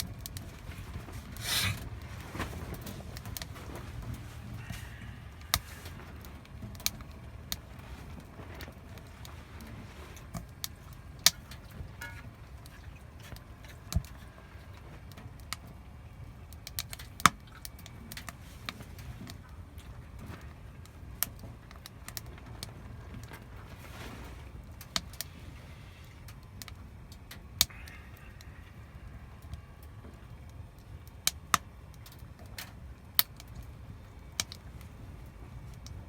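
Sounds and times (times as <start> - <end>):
firewood crackling and popping: 0.0 - 36.0.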